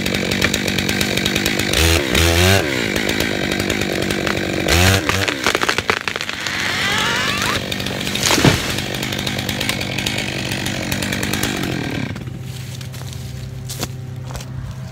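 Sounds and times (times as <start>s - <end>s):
wood crackling: 0.0s - 2.0s, 3.0s - 14.6s
chainsaw cutting wood: 0.0s - 13.7s
chainsaw idling: 0.0s - 14.4s.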